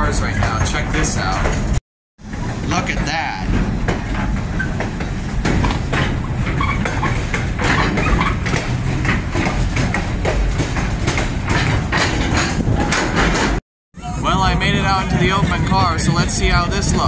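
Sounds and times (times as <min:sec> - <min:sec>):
train clanks and rattles: 0:00.0 - 0:13.6, 0:14.4 - 0:17.0
train wheels rumbling on rails: 0:00.0 - 0:17.0.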